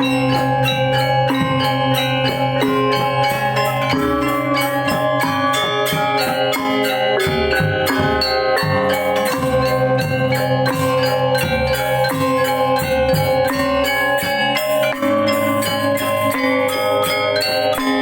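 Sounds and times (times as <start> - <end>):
gamelan ensemble playing: 0.0 - 18.0.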